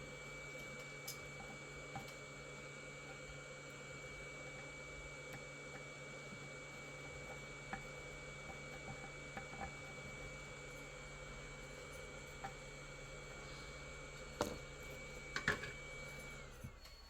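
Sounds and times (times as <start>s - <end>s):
faint hum with high whine: 0.0s - 17.0s.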